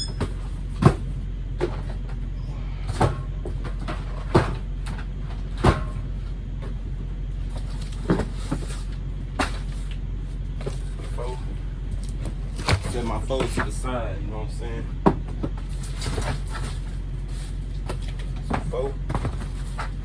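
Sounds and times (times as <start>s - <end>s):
boxes knocking and thumping: 0.0s - 6.9s, 7.5s - 9.9s, 12.2s - 13.8s, 14.9s - 20.0s
steady low hum: 0.0s - 20.0s.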